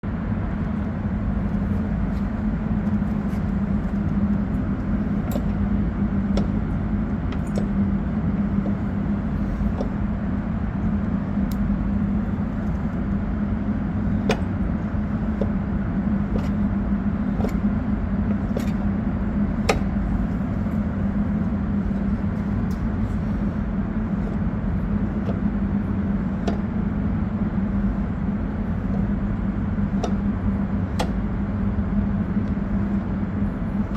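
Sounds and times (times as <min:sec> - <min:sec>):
engine model mechanical hum: 0:00.0 - 0:33.9.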